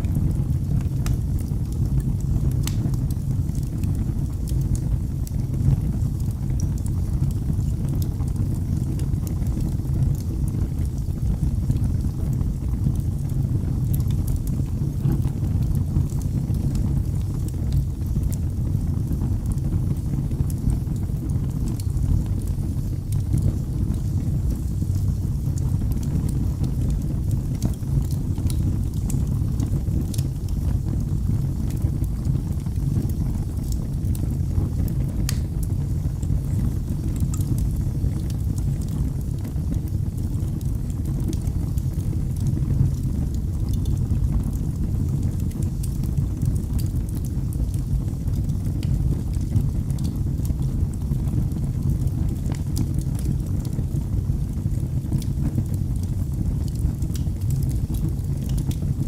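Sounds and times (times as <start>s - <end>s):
fire crackles and pops: 0.0s - 59.0s
fire flames rumbling: 0.0s - 59.0s.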